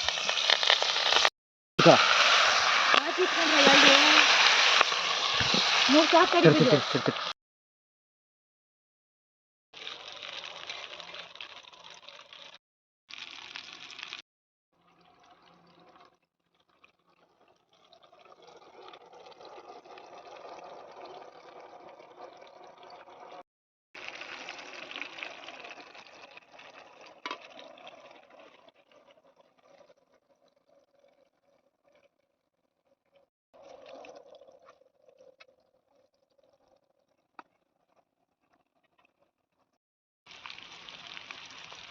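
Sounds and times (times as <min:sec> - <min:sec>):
chicken frying in hot oil: 0:00.0 - 0:07.4, 0:09.8 - 0:14.2, 0:14.8 - 0:23.4, 0:24.0 - 0:39.7, 0:40.3 - 0:41.9.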